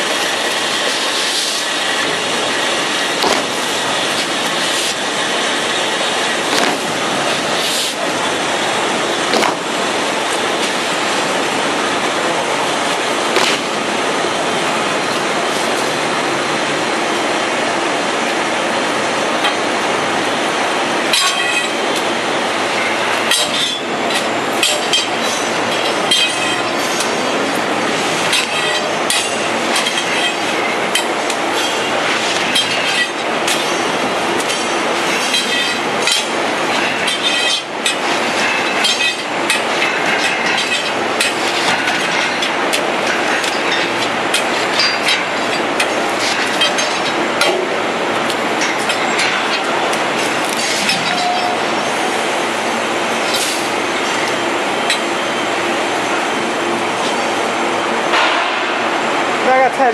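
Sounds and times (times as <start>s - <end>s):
loud machine noise: 0.0s - 59.9s.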